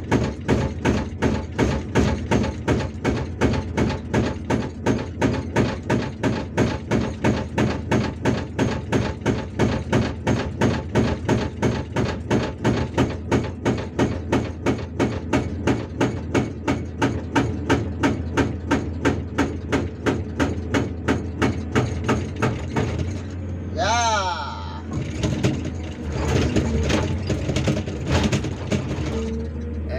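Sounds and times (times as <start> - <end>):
hydraulic breaker hammering rock: 0.0 - 23.4, 24.9 - 29.8
excavator engine running: 0.0 - 29.9.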